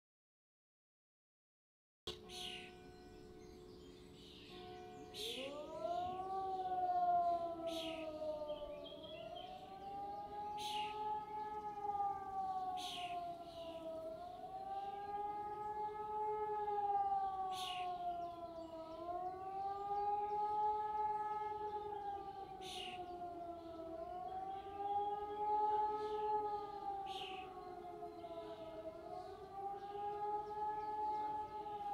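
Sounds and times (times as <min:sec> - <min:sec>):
civil defence sirens wailing: 0:02.2 - 0:31.9
distant electronic sirens wailing: 0:02.2 - 0:31.9
motor siren spinning up: 0:05.2 - 0:31.9.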